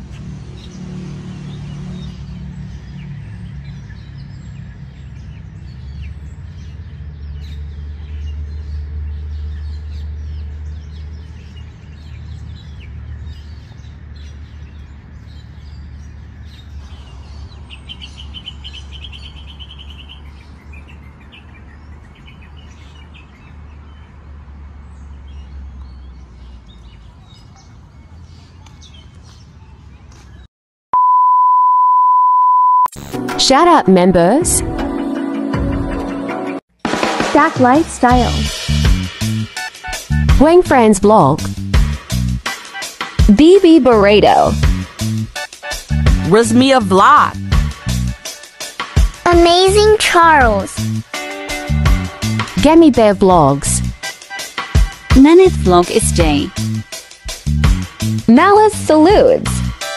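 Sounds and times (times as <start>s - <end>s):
birds chirping: 0.0s - 30.5s, 37.6s - 41.6s, 42.8s - 59.9s.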